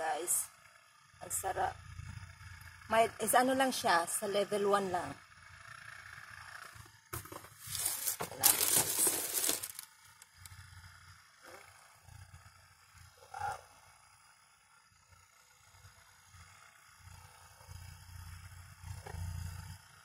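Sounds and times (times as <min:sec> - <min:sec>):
massage gun pulsing buzz: 0:00.0 - 0:20.0.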